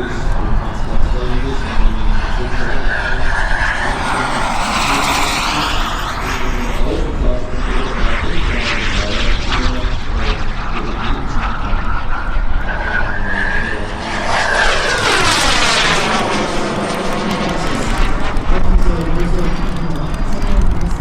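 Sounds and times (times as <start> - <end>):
jet turbine whining: 0.0 - 21.0
wind buffeting microphone: 0.0 - 21.0.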